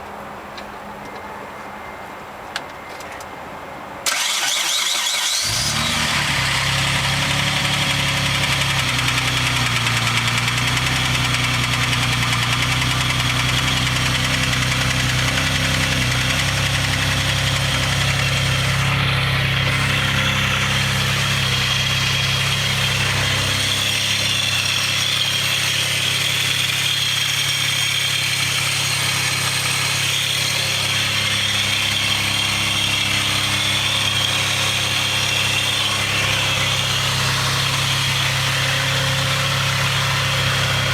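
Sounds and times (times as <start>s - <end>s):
car engine idling: 4.1s - 40.9s.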